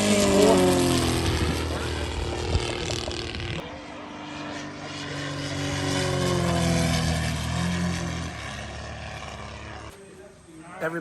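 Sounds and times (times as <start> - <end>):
model airplane engine flying past: 0.0 - 10.8.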